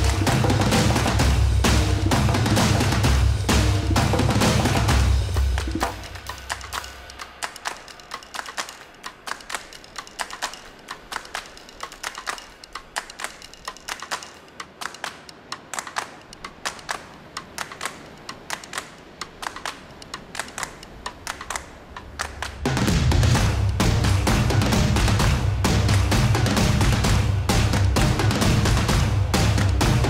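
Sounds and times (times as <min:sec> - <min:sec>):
rapid sharp clicks: 0:00.0 - 0:30.0.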